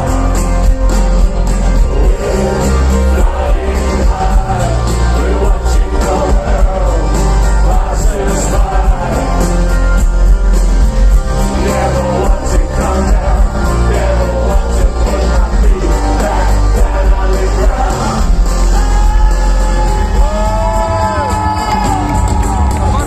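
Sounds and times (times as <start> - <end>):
rock band playing: 0.0 - 23.0
person singing: 1.6 - 9.8, 11.4 - 22.1.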